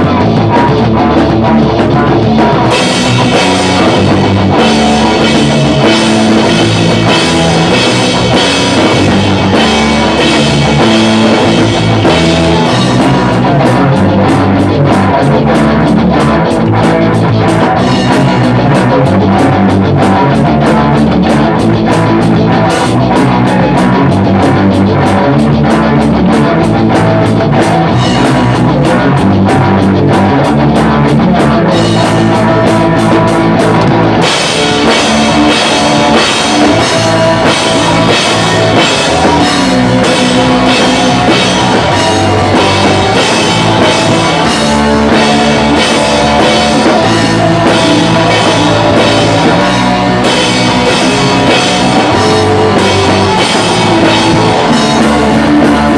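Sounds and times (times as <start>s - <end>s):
pop-punk band playing: 0.0s - 55.9s.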